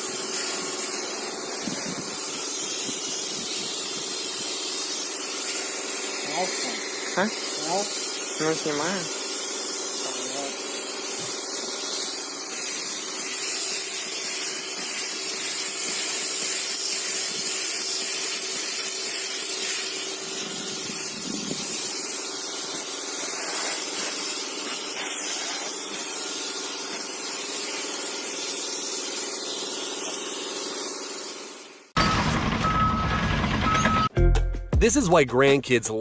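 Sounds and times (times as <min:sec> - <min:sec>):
steady hissing: 0:00.0 - 0:31.7.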